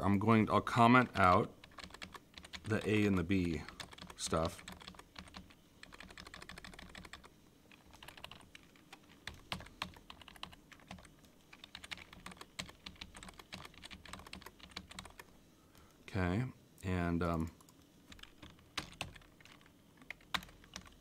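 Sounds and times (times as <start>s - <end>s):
computer keyboard typing: 1.2s - 15.3s, 17.6s - 21.0s.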